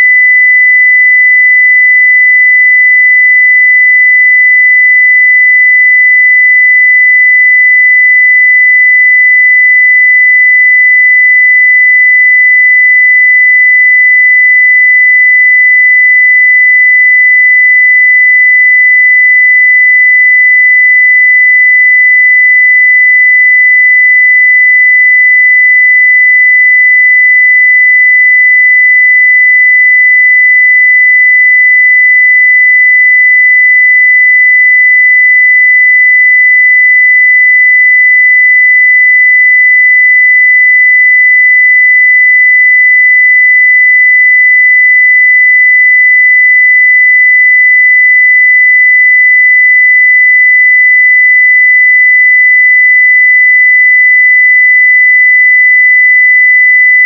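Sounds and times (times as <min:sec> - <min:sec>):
sine-wave test tone: 0:00.0 - 0:57.0.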